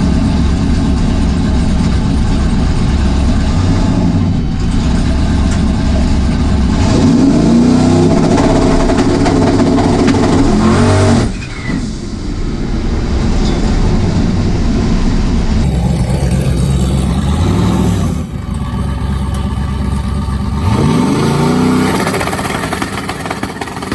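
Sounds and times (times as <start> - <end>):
car engine at full throttle: 0.0 - 23.9
lower steady engine sound: 0.0 - 23.9.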